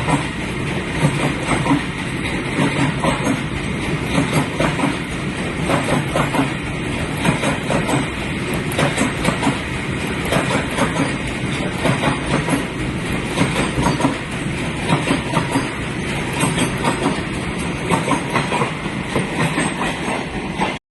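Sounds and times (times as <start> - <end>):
train wheels clattering over rails: 0.0 - 20.8.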